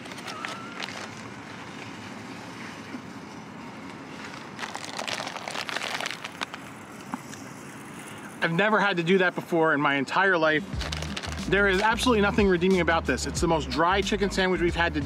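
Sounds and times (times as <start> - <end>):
hum of vehicle traffic: 0.0 - 15.0.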